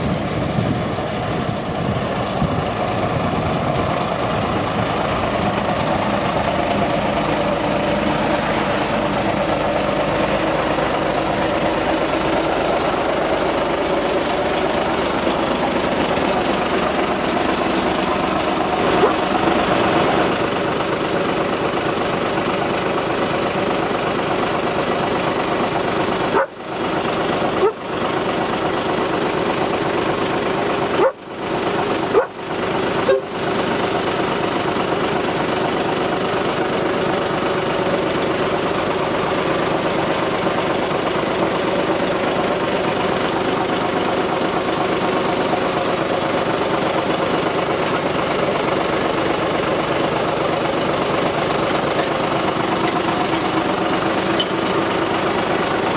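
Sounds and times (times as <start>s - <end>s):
locomotive engine running: 0.0s - 55.9s.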